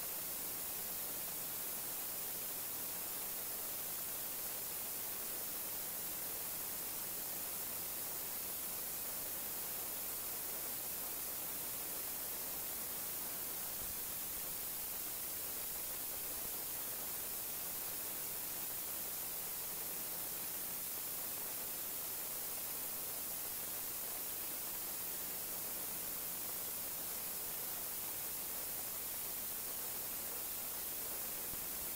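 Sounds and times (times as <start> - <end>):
static hiss: 0.0 - 31.9.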